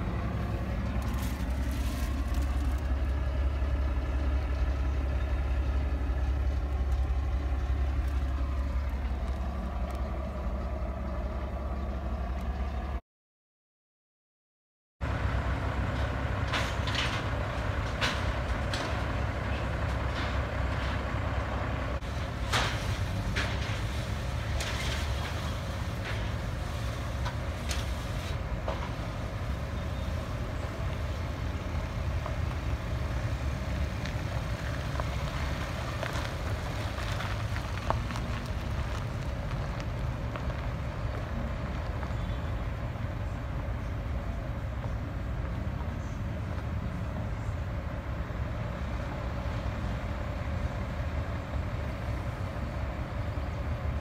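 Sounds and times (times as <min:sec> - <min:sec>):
vehicle engine rumbling: 0:00.0 - 0:13.0, 0:15.0 - 0:54.0.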